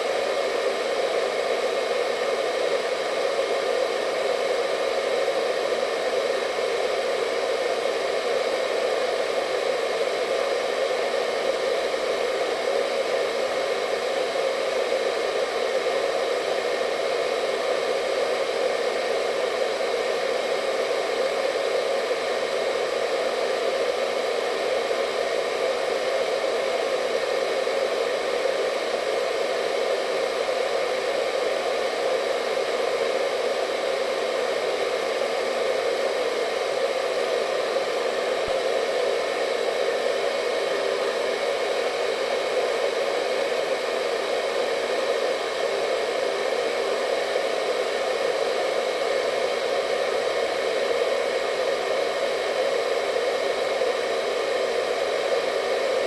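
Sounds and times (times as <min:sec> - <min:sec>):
faint motor whine: 0:00.0 - 0:56.0
hair dryer blowing air: 0:00.0 - 0:56.0.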